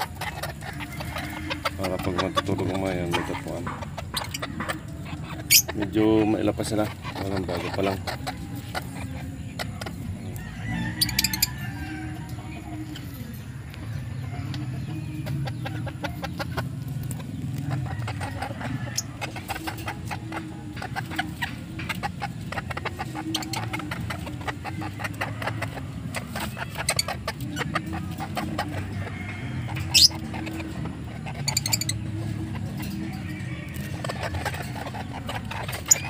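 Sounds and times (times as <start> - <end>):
chicken squawking: 0.0 - 10.2, 15.2 - 36.0
chickens clucking: 0.0 - 36.0.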